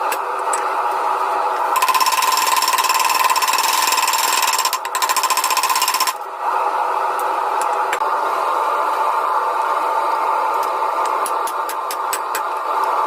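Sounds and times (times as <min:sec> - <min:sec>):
steady machine drone: 0:00.0 - 0:13.0.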